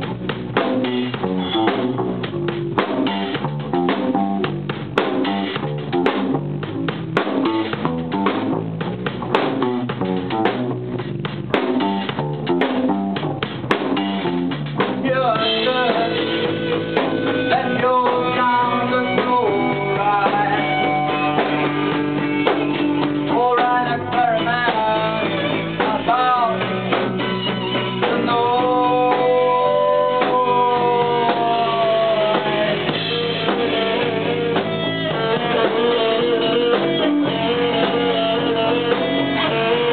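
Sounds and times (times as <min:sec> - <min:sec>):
drums hitting hard: 0:00.0 - 0:39.9
lead guitar with bends: 0:00.0 - 0:39.9
strummed guitar chords: 0:00.0 - 0:39.9.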